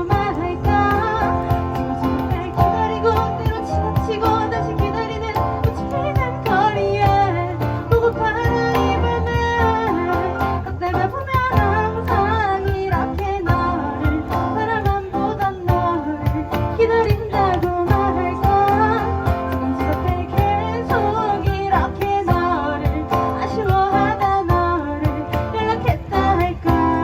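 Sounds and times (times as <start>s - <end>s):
cajon beat: 0.0s - 27.0s
live band playing: 0.0s - 27.0s
person singing: 0.0s - 27.0s.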